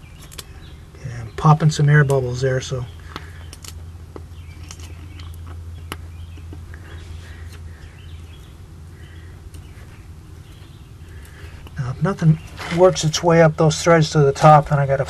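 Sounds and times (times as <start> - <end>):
bird chirps: 0.0 - 3.7, 4.3 - 14.2
steady low hum: 0.0 - 15.0.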